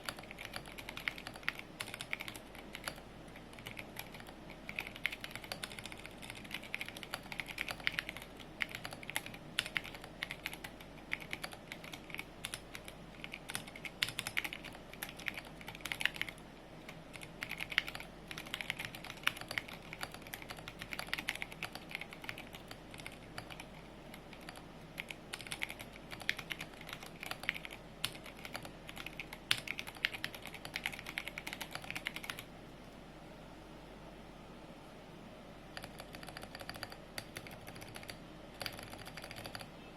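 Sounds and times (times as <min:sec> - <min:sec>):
mechanical keyboard typing: 0:00.0 - 0:32.5, 0:35.7 - 0:39.7.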